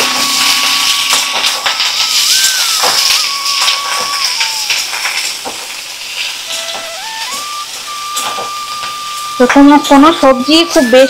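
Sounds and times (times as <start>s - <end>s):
thin whistle-like tone: 0.0s - 5.4s, 6.5s - 11.0s
vegetables sizzling in hot oil: 0.0s - 11.0s.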